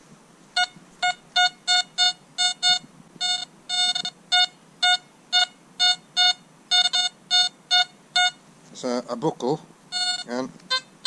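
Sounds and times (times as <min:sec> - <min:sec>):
metal detector short beeps: 0:00.6 - 0:08.4, 0:09.9 - 0:11.0.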